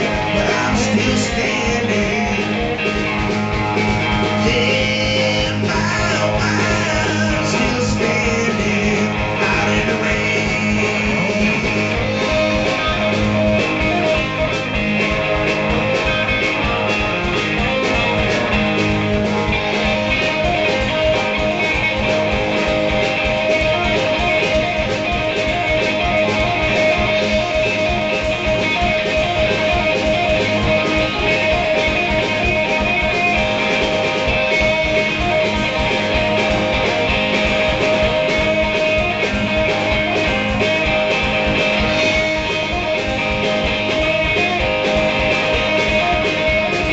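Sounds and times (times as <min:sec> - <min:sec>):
electric guitar playing: 0:00.0 - 0:46.9
steady drum beat: 0:00.0 - 0:46.9.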